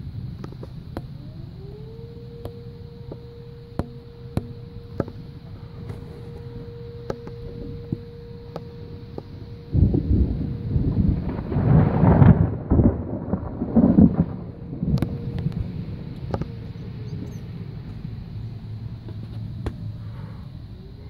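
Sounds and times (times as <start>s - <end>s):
low wind rumble: 0.0s - 21.0s
warning siren: 0.0s - 21.0s.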